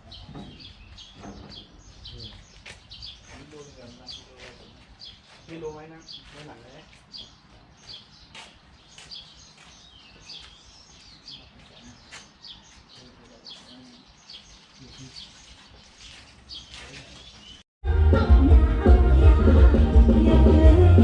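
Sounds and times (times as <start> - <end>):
birds chirping: 0.0 - 17.6.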